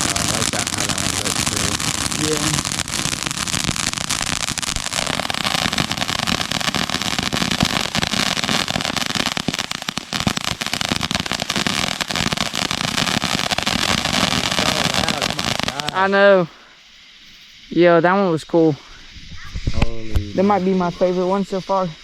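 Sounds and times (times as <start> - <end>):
firework crackling pops: 0.0 - 17.8, 19.2 - 21.4.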